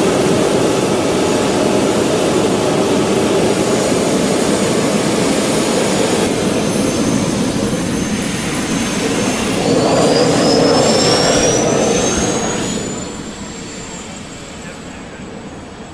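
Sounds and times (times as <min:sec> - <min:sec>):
jet turbine engine whining: 0:00.0 - 0:15.9.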